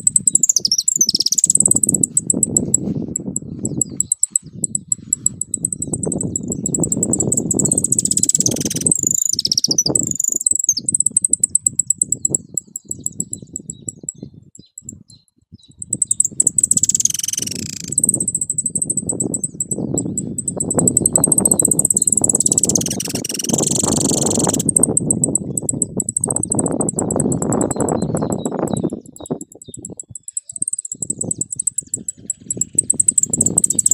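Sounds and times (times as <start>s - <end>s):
finch twittering song: 0.0s - 33.9s
wind rumble on microphone: 0.0s - 33.9s.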